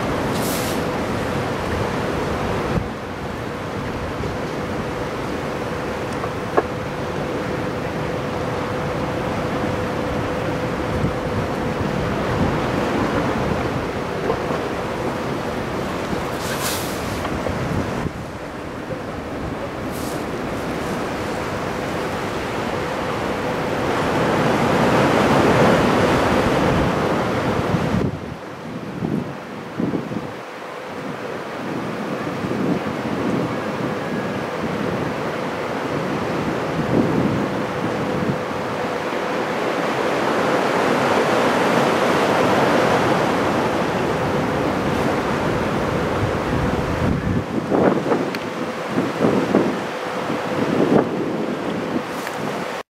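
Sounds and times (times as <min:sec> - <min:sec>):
waves breaking: 0:00.0 - 0:52.8
wind buffeting microphone: 0:00.0 - 0:52.8
surf roar: 0:00.0 - 0:52.9.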